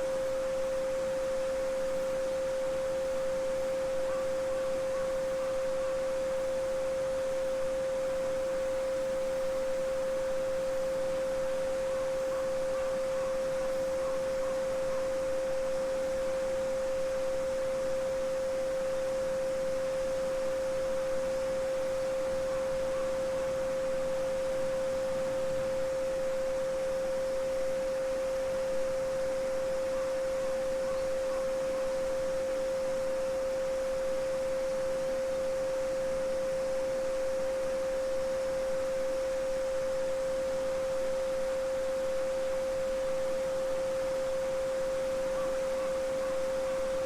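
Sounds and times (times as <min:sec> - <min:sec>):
pure sine tone: 0:00.0 - 0:47.0.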